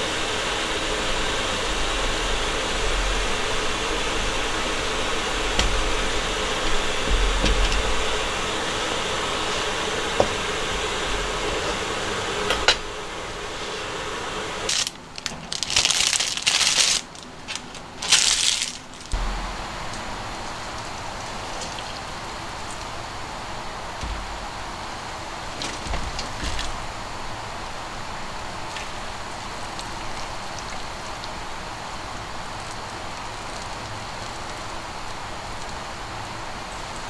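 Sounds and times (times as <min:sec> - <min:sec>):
water pouring and splashing: 0:00.1 - 0:13.6, 0:14.6 - 0:37.0.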